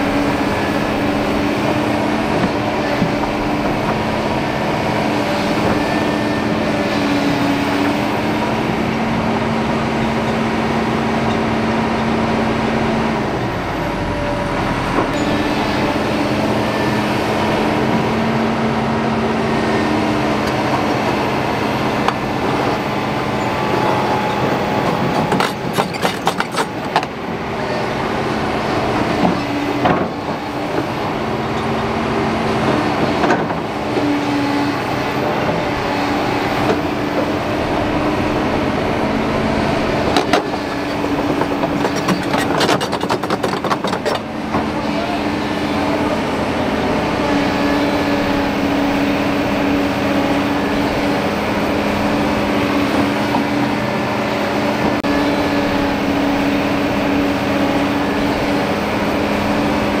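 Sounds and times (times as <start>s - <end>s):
excavator diesel engines running: 0.0s - 60.0s.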